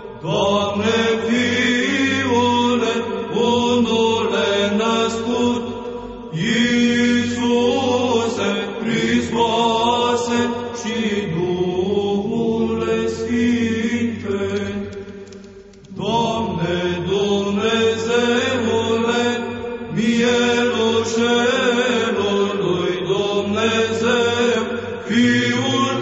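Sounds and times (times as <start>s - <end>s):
low held vocal drone: 0.0s - 15.0s, 15.9s - 26.0s.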